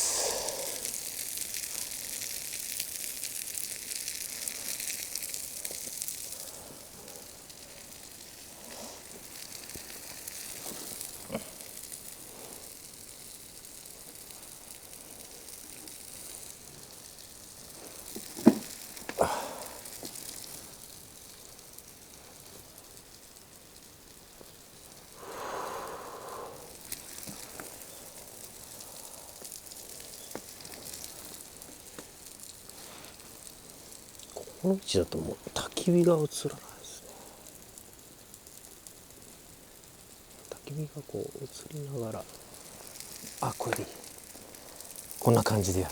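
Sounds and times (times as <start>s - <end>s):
chicken sizzling on griddle: 0.0s - 45.9s.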